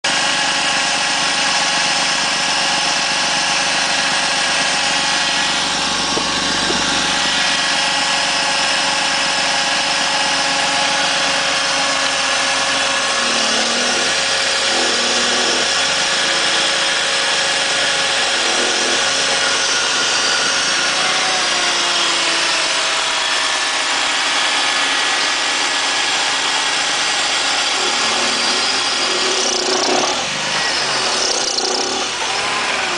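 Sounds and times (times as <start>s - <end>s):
car engine running: 0.4s - 21.8s, 24.8s - 32.9s.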